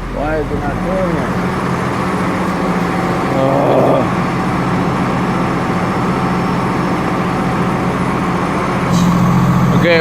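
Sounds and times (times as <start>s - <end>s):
truck diesel engine idling: 0.0s - 10.0s.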